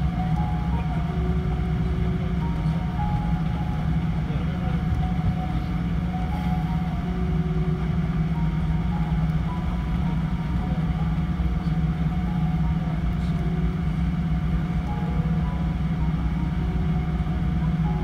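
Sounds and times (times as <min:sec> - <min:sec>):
aircraft cabin hum and rumble: 0:00.0 - 0:18.0
faint held musical notes: 0:00.0 - 0:18.0.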